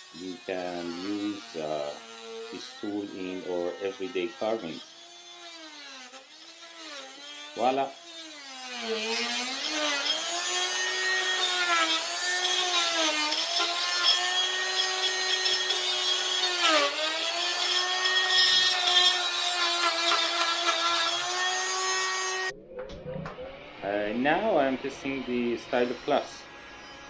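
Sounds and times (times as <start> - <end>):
multi-tool cutting wood: 0.0 - 22.6, 23.6 - 27.0.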